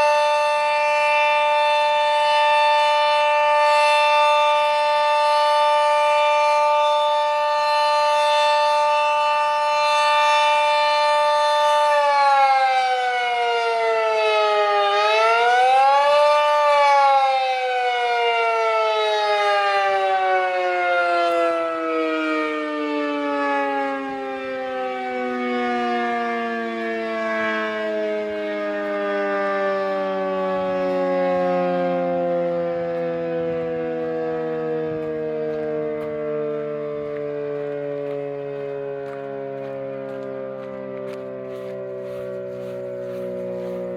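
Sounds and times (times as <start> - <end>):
dual-tone warning siren: 0.0 - 43.9.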